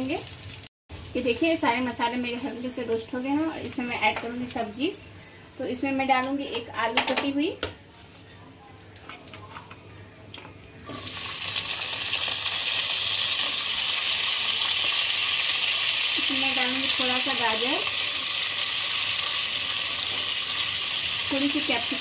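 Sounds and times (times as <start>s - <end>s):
potatoes frying in ghee: 0.0s - 22.0s.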